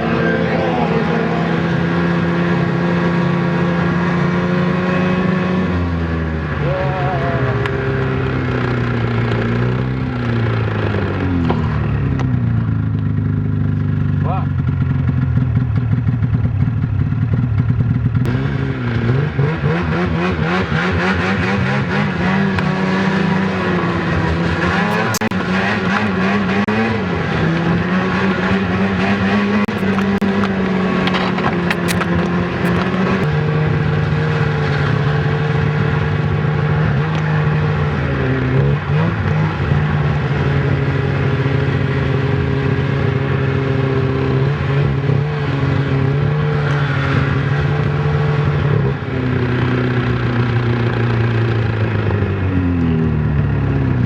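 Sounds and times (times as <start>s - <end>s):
snowmobile engine running unevenly: 0.0s - 54.0s.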